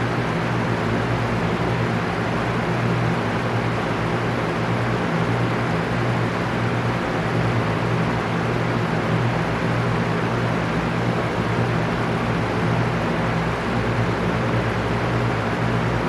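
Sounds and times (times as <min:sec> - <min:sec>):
electric fan air rushing: 0:00.0 - 0:16.0
fan motor hum: 0:00.0 - 0:16.0.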